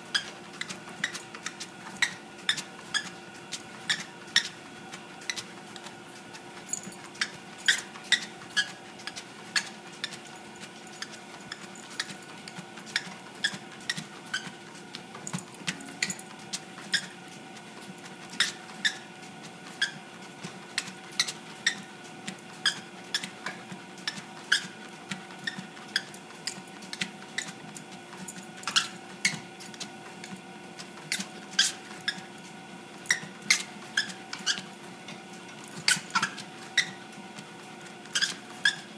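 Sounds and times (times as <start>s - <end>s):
dog claws clicking on treadmill: 0.0s - 38.9s
treadmill motor hum: 0.0s - 38.9s.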